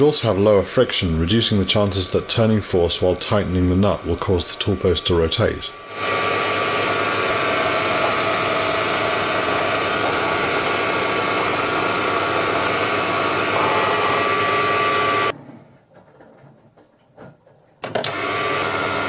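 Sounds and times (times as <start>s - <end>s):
lathe motor whine: 1.0s - 15.4s, 18.1s - 19.0s.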